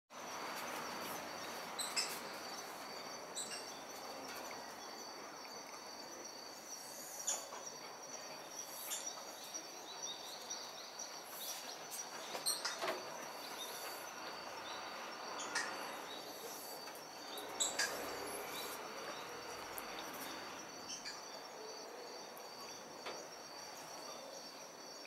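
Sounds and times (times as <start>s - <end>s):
faint bird chirps: 1.2s - 25.0s.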